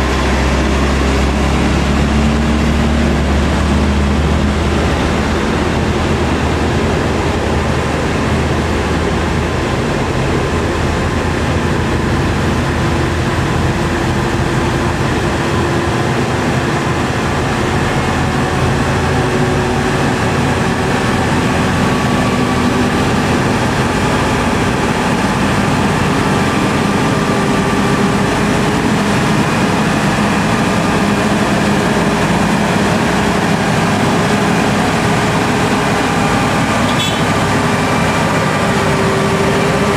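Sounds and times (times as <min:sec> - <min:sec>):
diesel truck engines droning: 0:00.0 - 0:39.9.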